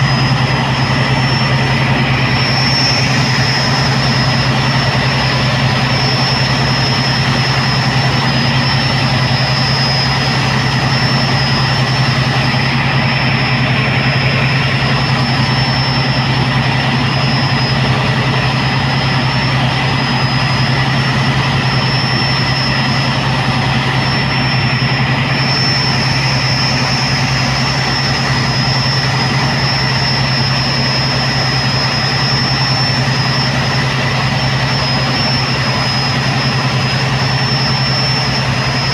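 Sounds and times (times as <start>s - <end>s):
diesel engine low hum: 0.0s - 38.9s
faint high whine: 0.0s - 38.9s.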